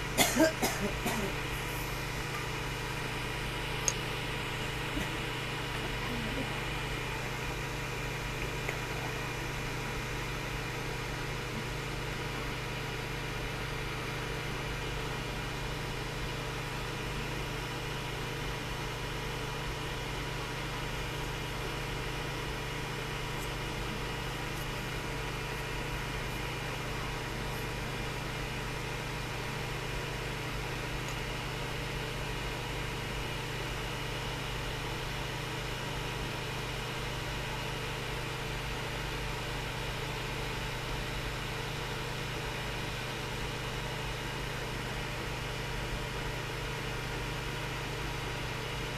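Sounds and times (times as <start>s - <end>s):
low machine hum with hiss: 0.0s - 48.9s.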